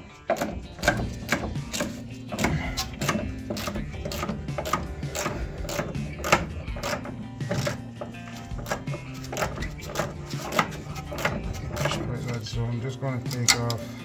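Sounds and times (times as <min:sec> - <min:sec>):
socket ratchet clicking: 0:00.2 - 0:12.4.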